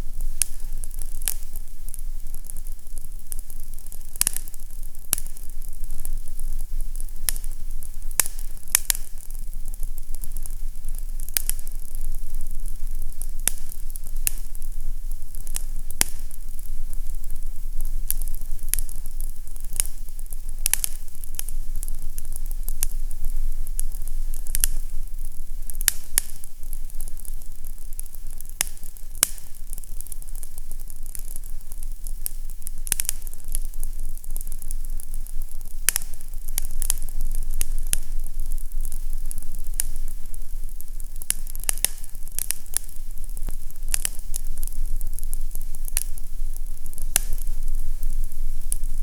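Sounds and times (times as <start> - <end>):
fireplace fire crackling: 0.0 - 49.0
low rumble and hiss of fire: 0.0 - 49.0.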